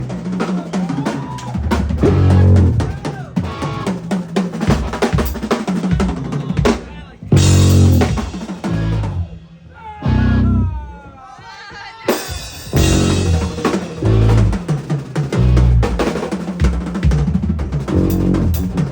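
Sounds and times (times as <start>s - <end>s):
fast drum kit runs: 0.0s - 9.3s, 12.2s - 18.9s
band music: 0.0s - 11.0s, 12.0s - 18.9s.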